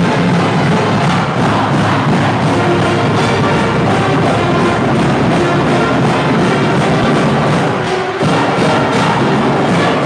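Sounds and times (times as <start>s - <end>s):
marching band playing: 0.0s - 10.0s.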